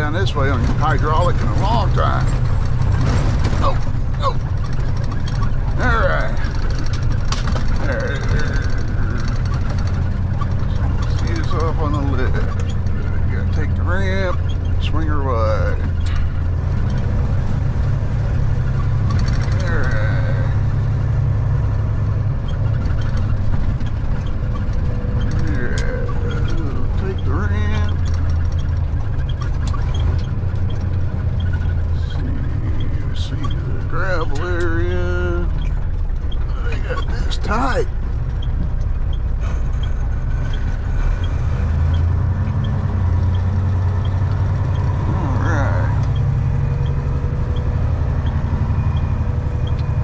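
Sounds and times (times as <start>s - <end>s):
road noise: 0.0s - 50.0s
truck diesel engine droning: 0.0s - 50.0s
faint ticking: 4.0s - 50.0s.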